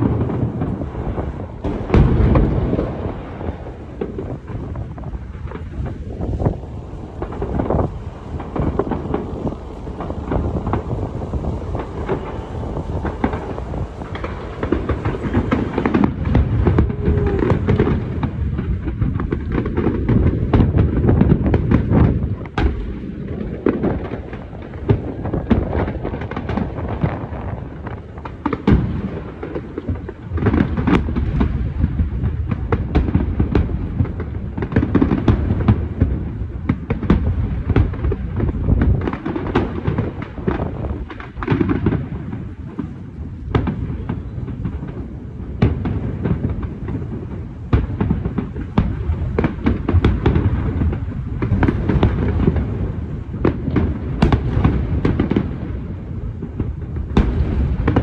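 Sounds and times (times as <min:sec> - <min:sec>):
fireworks bursting with bangs: 0:00.0 - 0:58.0
rumble of distant explosions: 0:00.0 - 0:58.0.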